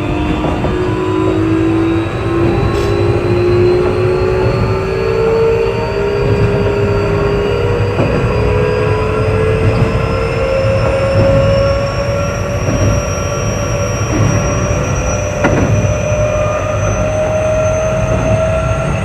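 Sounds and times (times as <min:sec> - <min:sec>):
wheels clacking over rail joints: 0:00.0 - 0:04.8, 0:08.0 - 0:19.0
electric train motor whine: 0:00.0 - 0:19.0.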